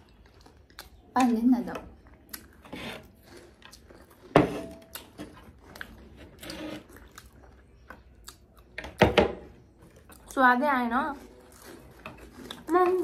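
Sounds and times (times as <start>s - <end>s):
chewing: 0.0s - 9.0s, 11.1s - 13.0s.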